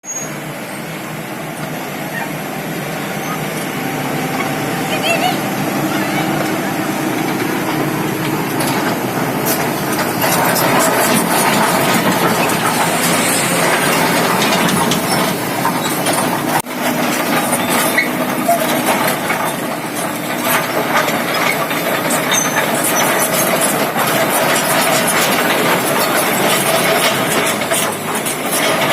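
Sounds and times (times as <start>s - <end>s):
steel tracks clanking: 0.0s - 28.9s
excavator engine: 0.1s - 28.9s.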